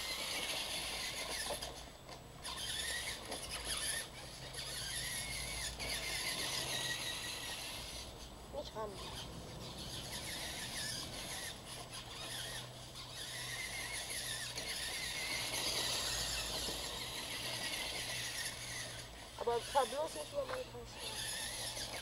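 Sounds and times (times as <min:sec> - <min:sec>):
electric toy truck motors whining: 0:00.0 - 0:22.0.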